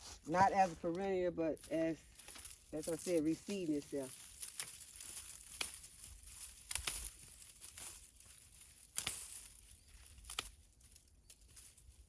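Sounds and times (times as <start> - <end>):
sharp crunches: 0.0 - 10.8
plant stalks rustling: 0.0 - 12.0.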